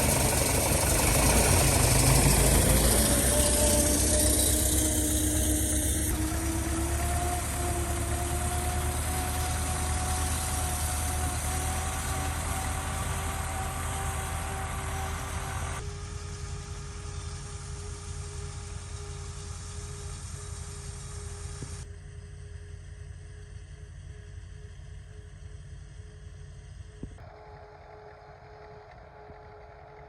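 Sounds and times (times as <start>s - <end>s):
engine running with steady hum: 0.0s - 30.0s.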